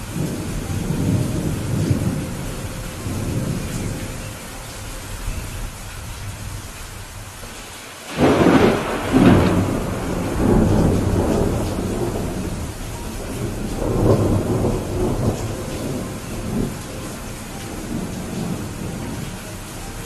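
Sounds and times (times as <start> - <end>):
rolling thunder: 0.0 - 7.3, 8.1 - 20.0
steady rain: 0.0 - 20.0.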